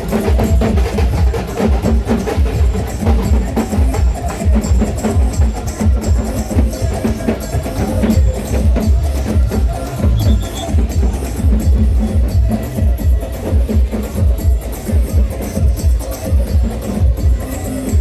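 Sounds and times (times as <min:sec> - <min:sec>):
drum-led music: 0:00.0 - 0:18.0.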